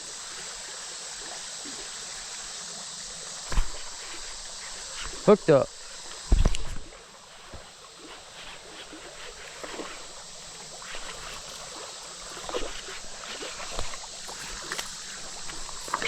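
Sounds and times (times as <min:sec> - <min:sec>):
creek water running: 0:00.0 - 0:16.0
small water splashes: 0:00.0 - 0:16.0.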